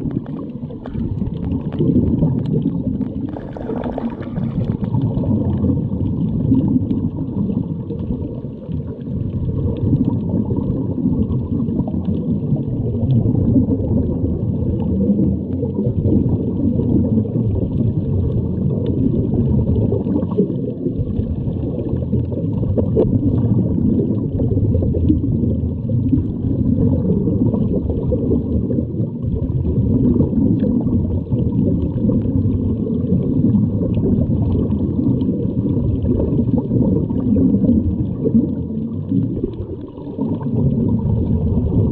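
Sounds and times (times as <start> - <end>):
muffled underwater noise: 0.0 - 41.9
scuba regulator gurgle and bubbles: 0.0 - 41.9.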